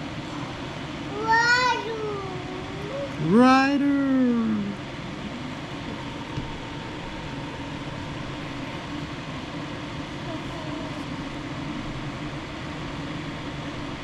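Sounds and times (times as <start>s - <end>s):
fan whirring hum: 0.0s - 14.0s.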